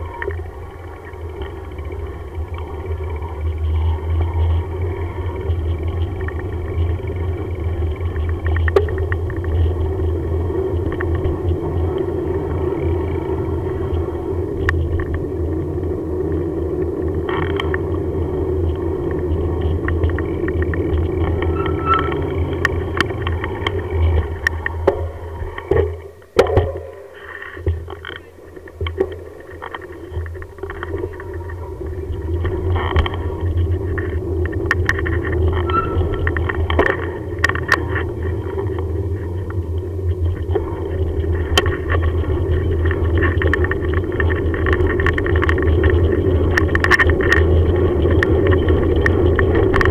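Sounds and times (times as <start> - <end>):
bicycle clicks and rattles: 0.0 - 49.9
bicycle tyres rumbling on tarmac: 0.0 - 49.9.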